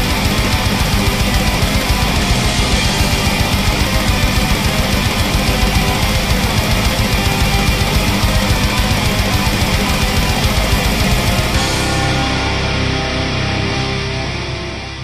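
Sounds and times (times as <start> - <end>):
fast dense drumming: 0.0 - 12.6
distorted electric guitars: 0.0 - 15.0.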